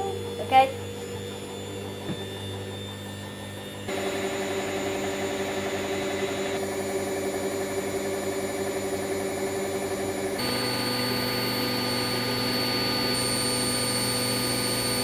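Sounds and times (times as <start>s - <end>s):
washer dryer spinning: 0.0s - 15.0s.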